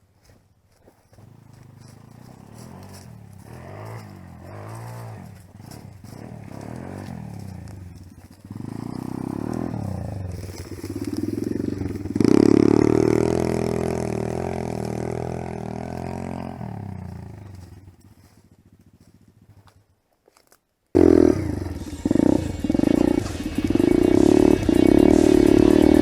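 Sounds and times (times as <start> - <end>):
dirt bike engine revving: 1.2 - 19.4, 21.0 - 26.0.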